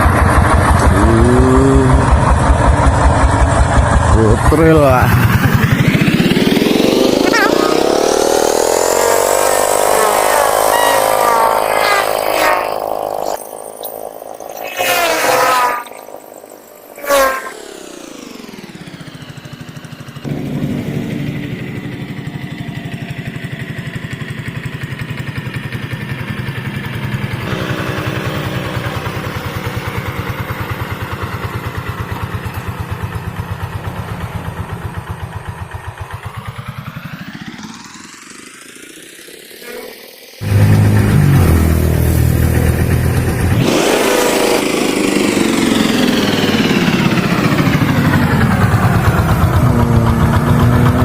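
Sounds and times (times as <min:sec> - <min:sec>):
tractor diesel engine chugging: 0:00.0 - 0:14.4, 0:17.6 - 0:38.2, 0:40.4 - 0:43.5, 0:45.2 - 0:51.0.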